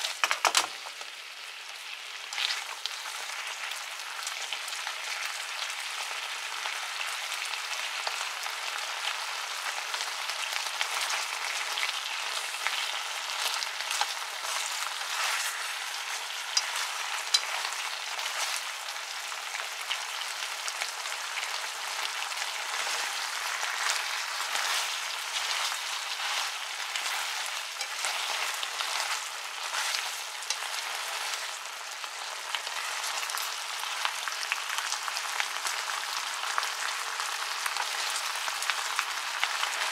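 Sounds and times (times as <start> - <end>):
chicken wings sizzling in a pan: 0.0 - 39.9.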